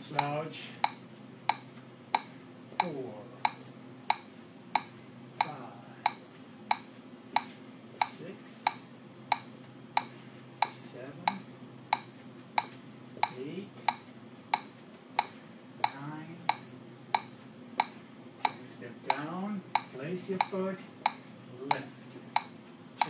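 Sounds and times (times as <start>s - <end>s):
metronome clicking: 0.1s - 19.2s, 19.8s - 22.5s.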